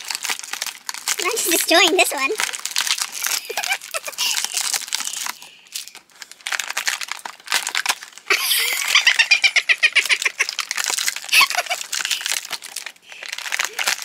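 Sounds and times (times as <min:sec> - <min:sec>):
cardboard tearing and crinkling: 0:00.0 - 0:08.4, 0:10.0 - 0:14.0.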